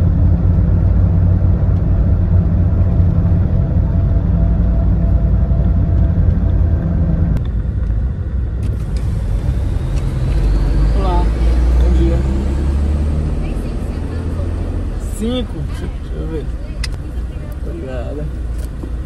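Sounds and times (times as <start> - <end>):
engine and road noise in cabin: 0.0 - 19.0.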